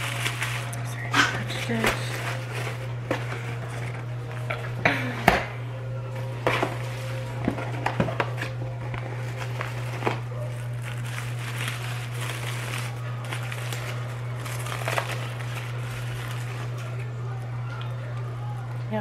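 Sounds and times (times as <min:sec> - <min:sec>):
paper wrapper crinkling: 0:00.0 - 0:04.7, 0:06.3 - 0:18.4
steady low hum: 0:00.0 - 0:19.0.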